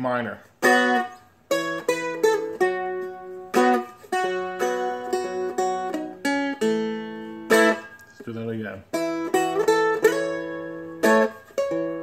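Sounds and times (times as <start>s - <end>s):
plucked string notes: 0.6s - 12.0s.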